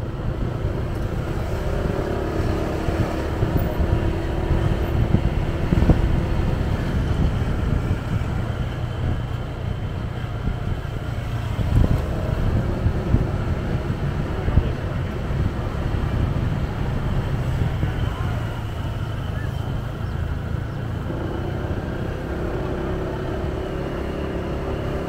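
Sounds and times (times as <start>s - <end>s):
steady engine hum: 0.0s - 25.0s
traffic rumble of engines and tyres: 0.0s - 25.0s
wind buffeting microphone: 0.0s - 25.0s.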